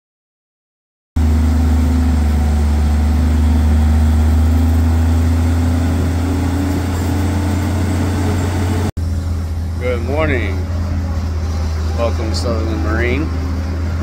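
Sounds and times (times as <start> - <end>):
engine idling: 1.2 - 14.0.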